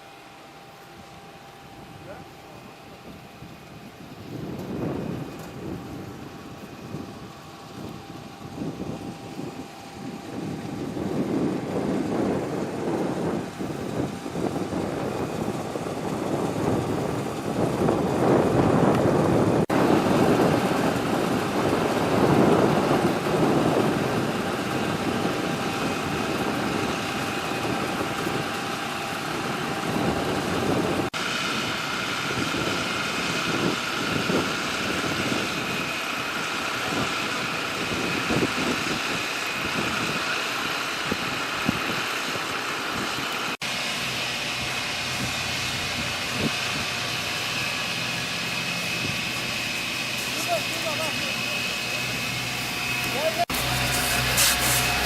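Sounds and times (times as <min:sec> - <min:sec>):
fire truck engine running: 0:00.0 - 0:55.0
thin steady whine: 0:00.0 - 0:55.0.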